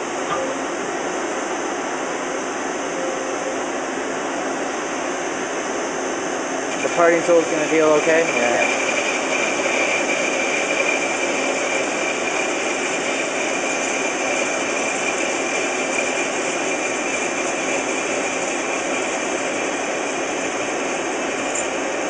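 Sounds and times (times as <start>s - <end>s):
lathe machine whine: 0.0s - 22.0s.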